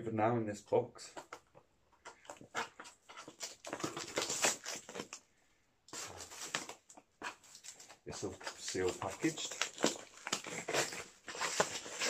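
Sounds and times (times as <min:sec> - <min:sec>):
packaging rustling and tapping: 0:01.1 - 0:05.2, 0:06.0 - 0:12.0.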